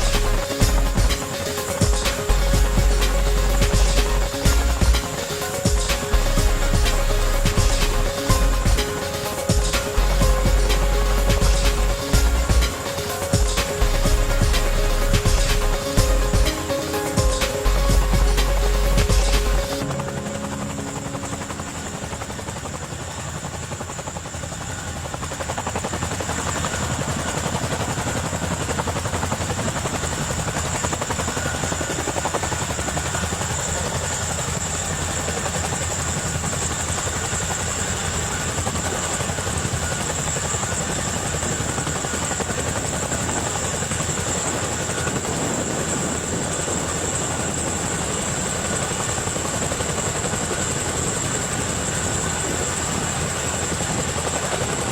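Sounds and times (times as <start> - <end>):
helicopter rotor with high whine: 0.0 - 54.9.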